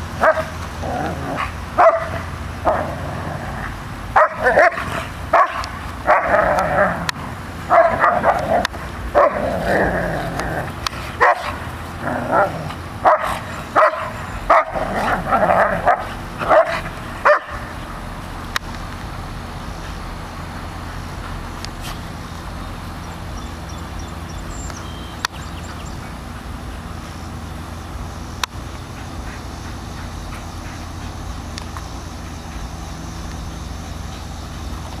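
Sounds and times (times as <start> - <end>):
dogs barking and yipping: 0.0 - 35.0.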